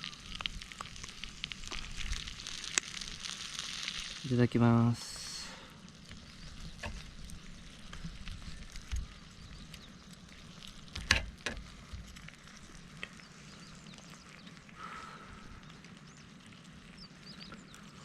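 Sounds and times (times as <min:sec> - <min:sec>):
campfire crackling: 0:00.0 - 0:18.0
fire pops and cracks: 0:00.0 - 0:18.0.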